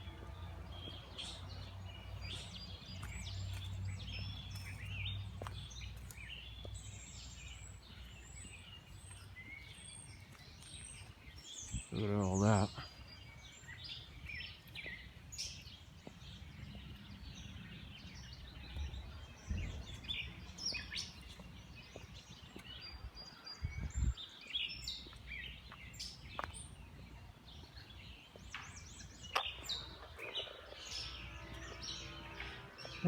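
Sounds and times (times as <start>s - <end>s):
songbirds chirping and singing: 0.0s - 33.0s.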